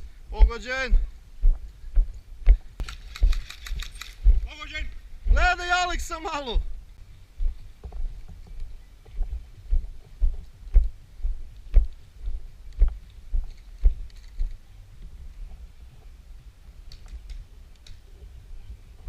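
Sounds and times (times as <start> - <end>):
footsteps walking: 0.0 - 16.1.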